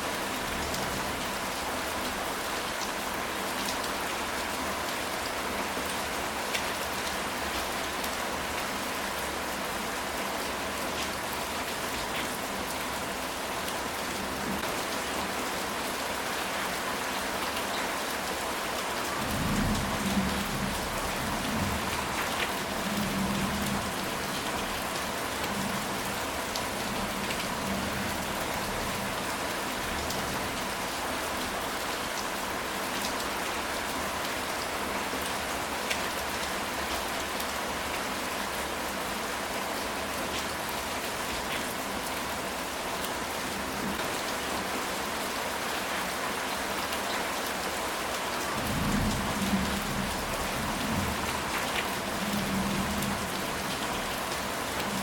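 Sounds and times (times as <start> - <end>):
rain on a tile roof: 0.0 - 55.0.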